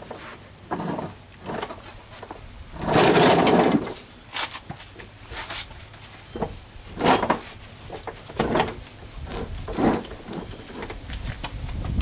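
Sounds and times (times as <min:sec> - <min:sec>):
steel mower deck scraping concrete: 0:00.0 - 0:12.0.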